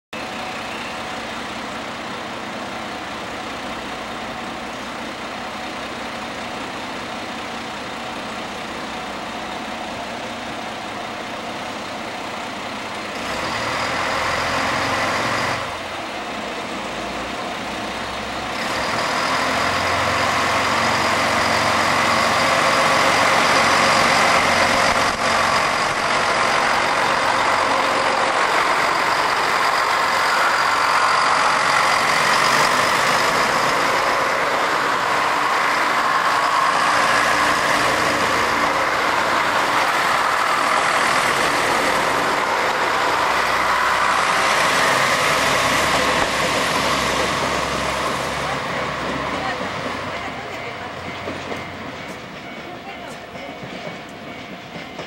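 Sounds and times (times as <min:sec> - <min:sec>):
diesel train engines running: 0:00.1 - 0:55.0.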